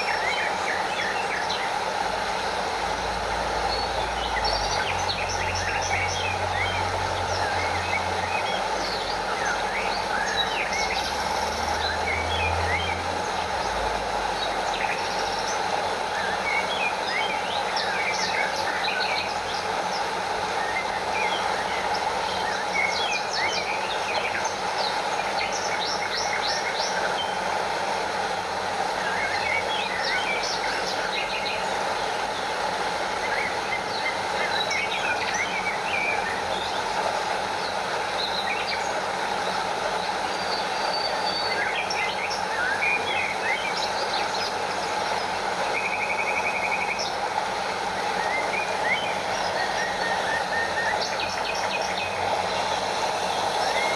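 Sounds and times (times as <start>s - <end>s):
stream water splashing over waterfall: 0.0s - 53.9s.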